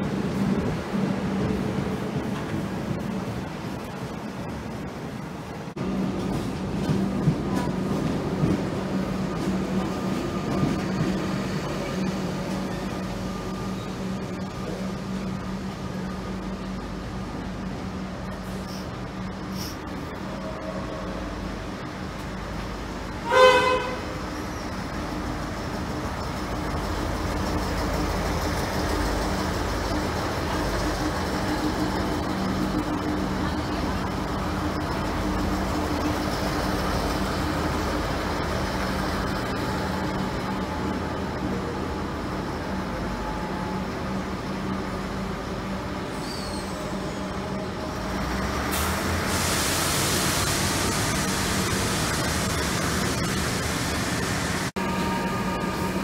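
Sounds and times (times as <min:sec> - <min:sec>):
diesel railcars passing: 0:00.0 - 0:56.0.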